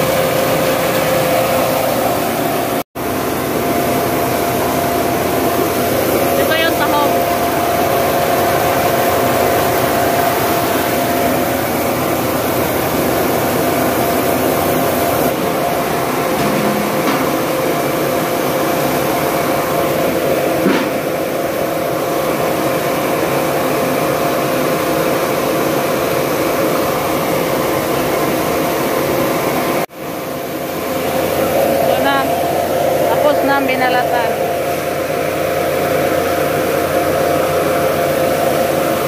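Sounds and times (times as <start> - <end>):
mill machine droning: 0.0 - 39.0.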